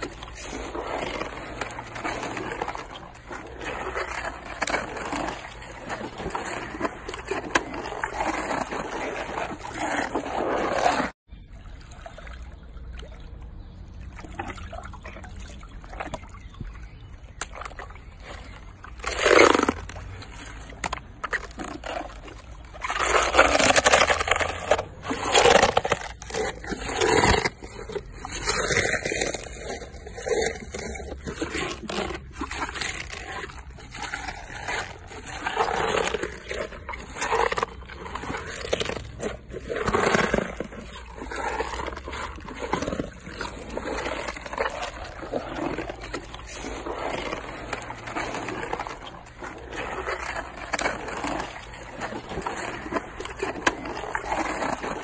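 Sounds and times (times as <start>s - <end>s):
hippopotamus chewing and crunching: 0.0s - 55.0s.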